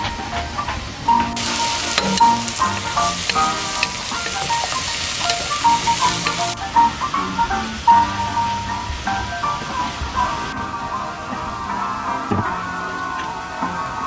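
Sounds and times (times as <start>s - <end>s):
background music: 0.0s - 14.0s
dense sizzling hiss: 0.0s - 14.0s.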